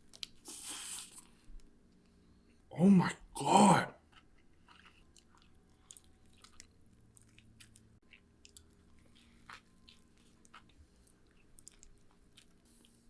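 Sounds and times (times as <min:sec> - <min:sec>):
faint chewing: 0:00.0 - 0:02.7, 0:04.0 - 0:13.0.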